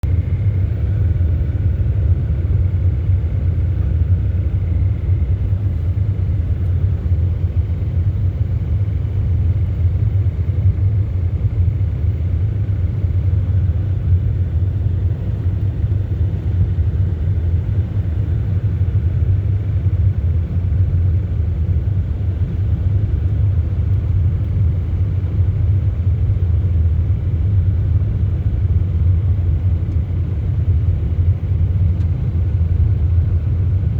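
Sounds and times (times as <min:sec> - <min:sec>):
bus engine and road noise: 0:00.0 - 0:33.9.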